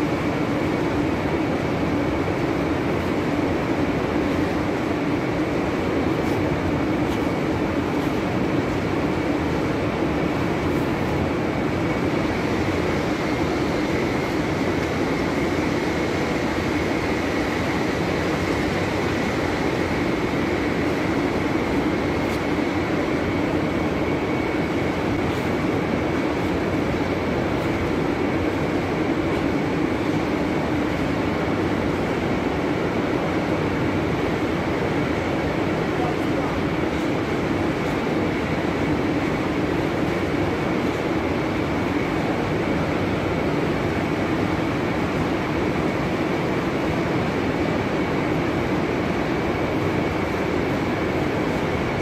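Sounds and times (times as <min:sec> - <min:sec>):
factory machinery droning: 0:00.0 - 0:52.0.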